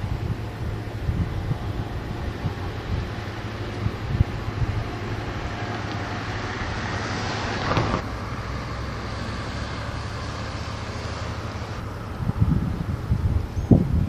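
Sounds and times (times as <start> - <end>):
road traffic noise: 0.0 - 14.0
vehicle passing close by: 0.0 - 14.0.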